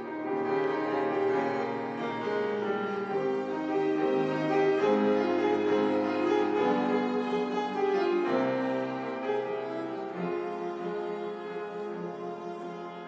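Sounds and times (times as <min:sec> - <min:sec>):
piano and string quartet: 0:00.0 - 0:13.0.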